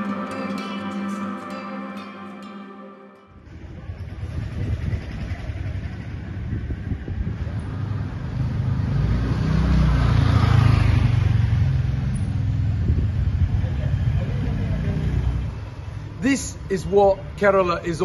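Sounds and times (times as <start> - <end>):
motor scooter passing: 0.0 - 16.2
low street rumble: 3.4 - 18.0.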